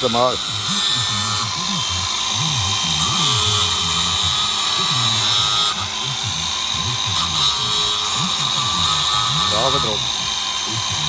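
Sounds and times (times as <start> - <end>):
angle grinder running: 0.0 - 11.0.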